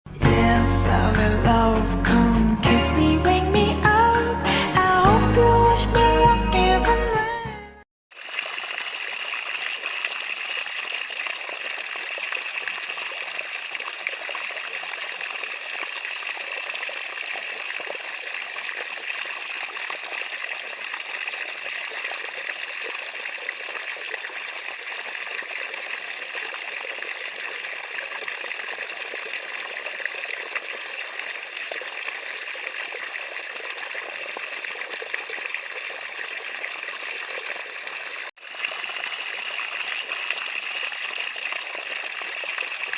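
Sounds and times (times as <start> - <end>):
water trickling: 8.1 - 42.9.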